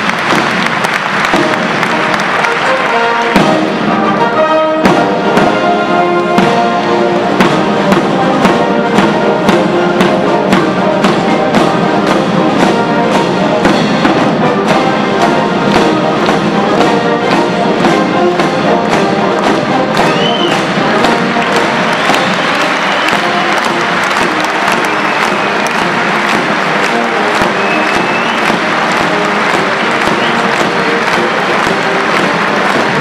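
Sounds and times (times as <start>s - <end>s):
brass band playing a march: 0.0s - 33.0s
steady drum beat: 0.0s - 33.0s.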